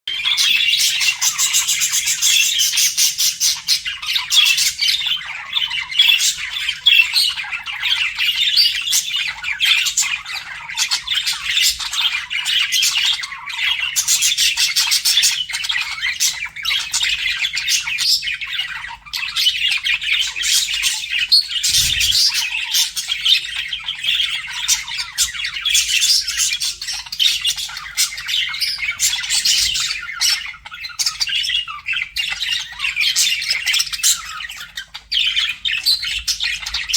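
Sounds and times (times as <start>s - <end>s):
budgerigars chattering: 0.1s - 36.9s.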